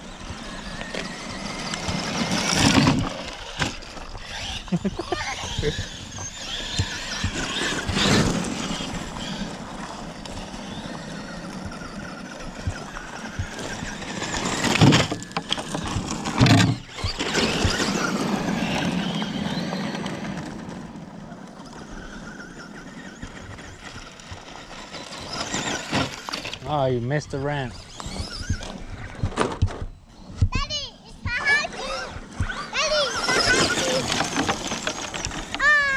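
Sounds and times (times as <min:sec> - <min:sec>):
electric motors whining: 0:00.0 - 0:35.9
tyres on grass and gravel: 0:00.0 - 0:35.9.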